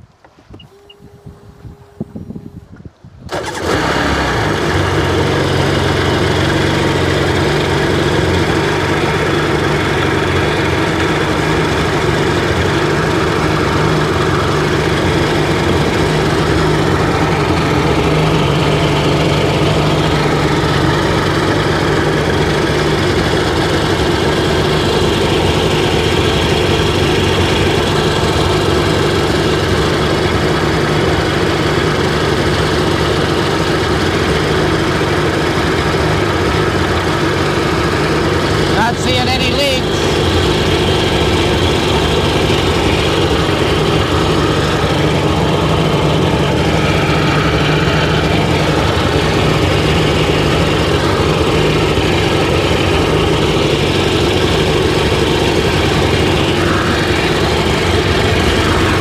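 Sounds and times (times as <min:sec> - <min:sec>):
two-stroke engine idling: 0:00.0 - 0:59.0.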